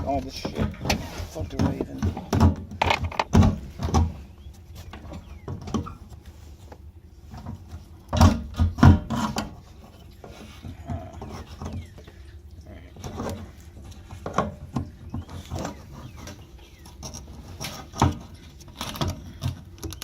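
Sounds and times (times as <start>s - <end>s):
fuel pump clunking and scraping: 0.0s - 20.0s.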